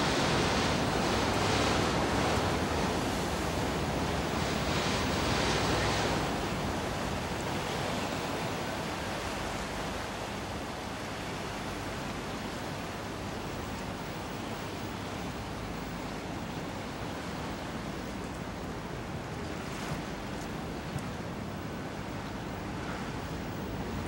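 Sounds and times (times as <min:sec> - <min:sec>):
wind and sea water rushing: 0:00.0 - 0:24.0.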